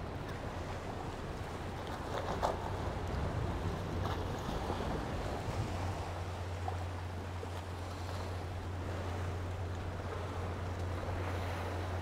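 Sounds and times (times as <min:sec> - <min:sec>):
boat engine humming: 0:00.0 - 0:12.0
water lapping: 0:00.0 - 0:12.0.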